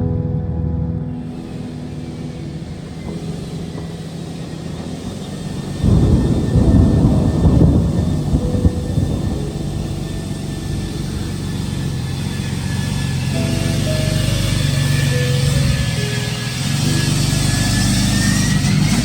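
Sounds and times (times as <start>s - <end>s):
loud rough rumble: 0.0s - 19.0s
vehicle engine humming: 0.0s - 19.0s.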